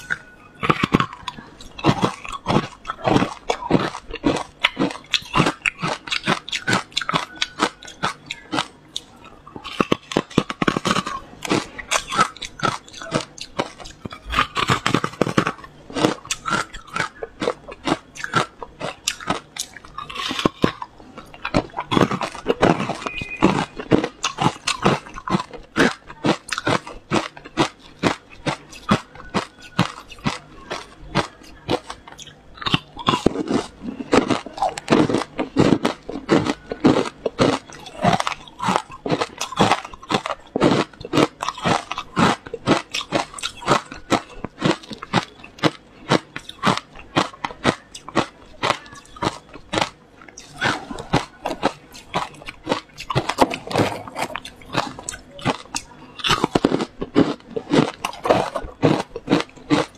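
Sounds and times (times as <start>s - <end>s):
ice cubes crunching being chewed: 0.0s - 59.9s.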